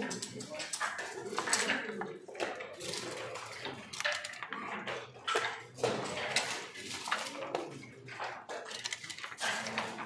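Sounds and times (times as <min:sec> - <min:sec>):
checkers and dice clacking: 0:00.0 - 0:10.0.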